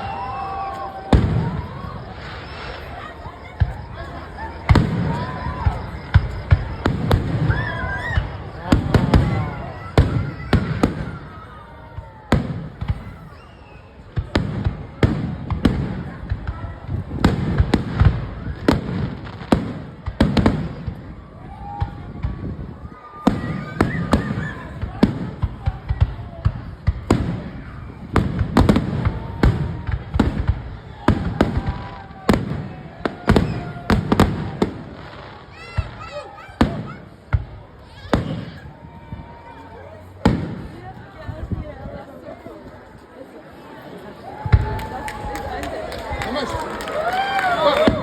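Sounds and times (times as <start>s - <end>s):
fireworks bangs: 0.0s - 43.0s, 44.3s - 48.0s.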